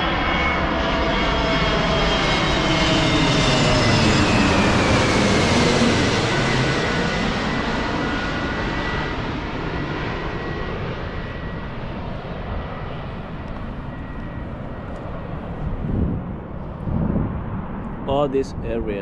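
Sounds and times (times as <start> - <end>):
airliner engines passing overhead: 0.0 - 19.0.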